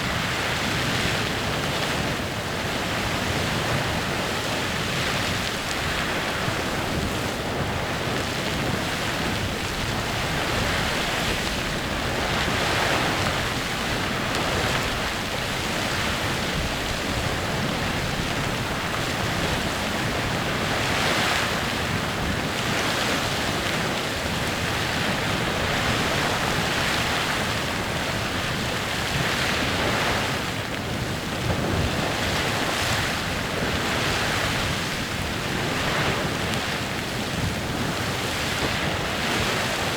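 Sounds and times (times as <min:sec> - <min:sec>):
geyser spraying water and steam: 0:00.0 - 0:39.9.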